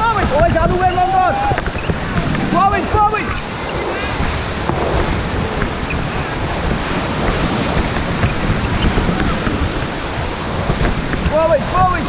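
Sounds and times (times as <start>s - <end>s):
whitewater rushing: 0.0s - 12.0s
wind buffeting microphone: 0.0s - 12.0s.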